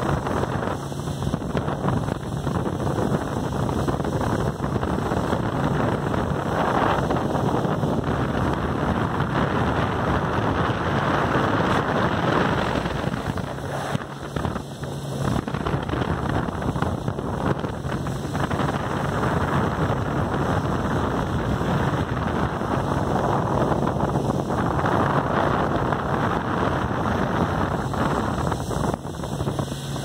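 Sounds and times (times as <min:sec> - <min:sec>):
motorboat engine running: 0:00.0 - 0:30.0
water rushing past hull: 0:00.0 - 0:30.0
wind buffeting microphone: 0:00.0 - 0:30.0.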